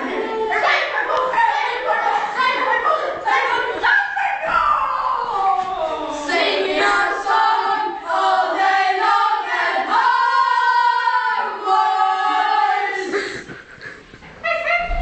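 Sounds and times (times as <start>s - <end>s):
young voices singing together: 0.0s - 13.5s.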